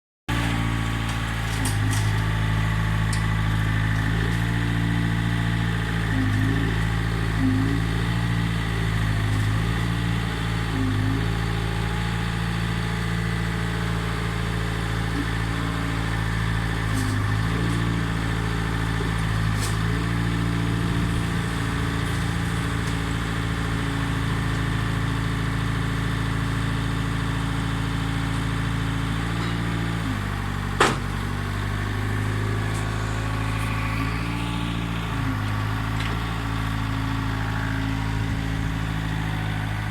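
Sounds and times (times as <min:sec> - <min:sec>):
diesel engine running: 0:00.3 - 0:39.9.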